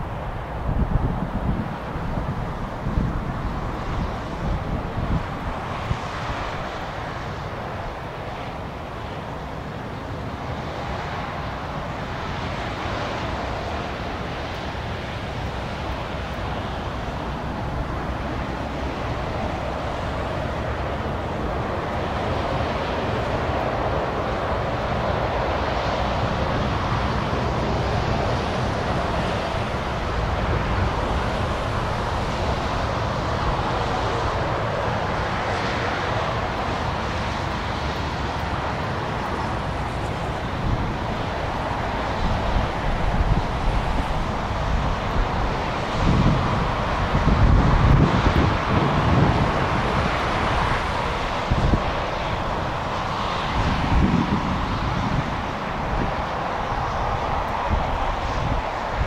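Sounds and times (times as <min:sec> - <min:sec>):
turboprop engines rushing: 0:00.0 - 0:59.0.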